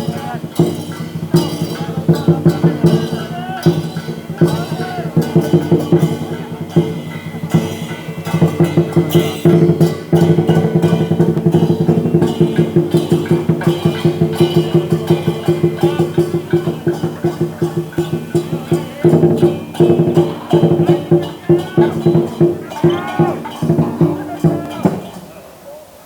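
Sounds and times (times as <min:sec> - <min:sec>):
ringing metal percussion: 0:00.0 - 0:25.7
drum beaten in fast rhythm: 0:00.0 - 0:25.8.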